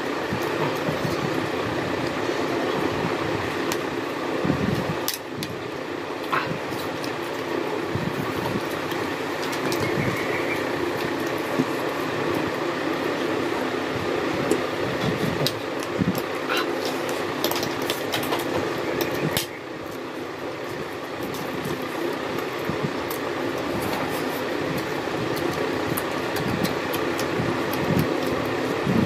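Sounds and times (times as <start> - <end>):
steady rushing background noise: 0.0 - 29.0.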